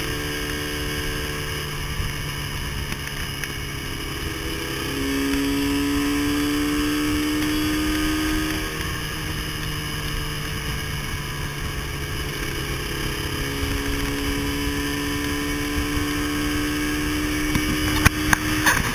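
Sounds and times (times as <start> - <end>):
motorcycle engine running: 0.0 - 18.9
wind rushing over microphone: 0.0 - 18.9.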